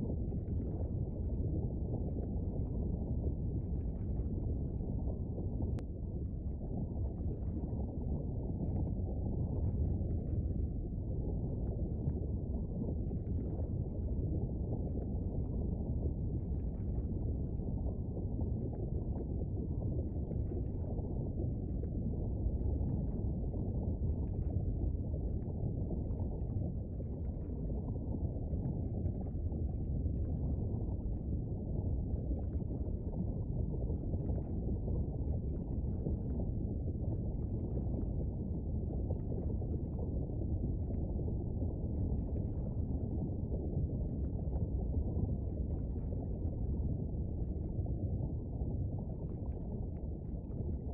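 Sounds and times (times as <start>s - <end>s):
faint crackles: 0.0s - 50.9s
low volcanic rumble: 0.0s - 50.9s.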